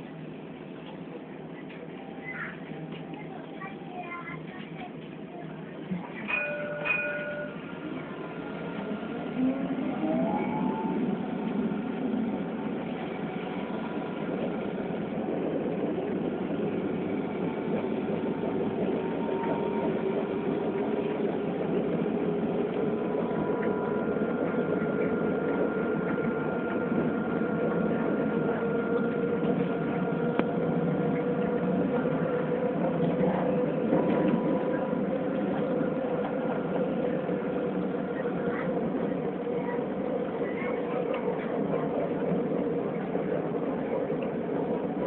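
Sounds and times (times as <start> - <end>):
wheels rumbling on rail: 0.0 - 45.0.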